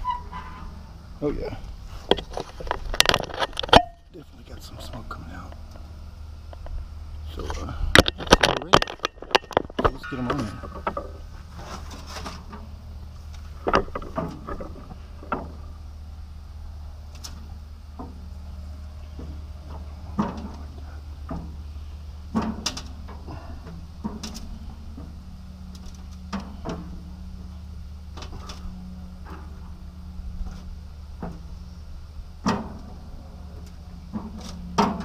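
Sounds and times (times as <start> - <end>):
gas grill low rumble: 0.0 - 35.0.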